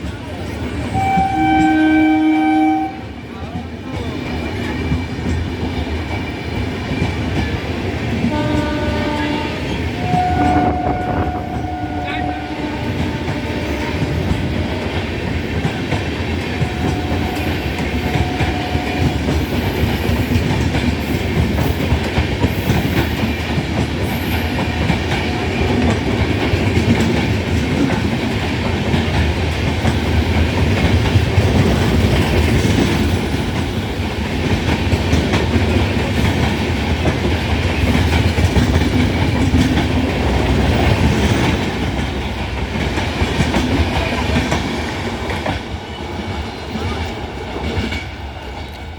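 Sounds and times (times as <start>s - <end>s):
train wheels clattering over rails: 0.0s - 48.9s.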